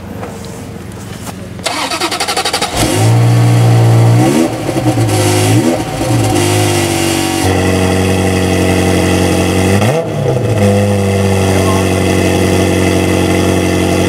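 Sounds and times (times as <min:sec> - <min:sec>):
car engine idling loudly: 0:00.0 - 0:14.0.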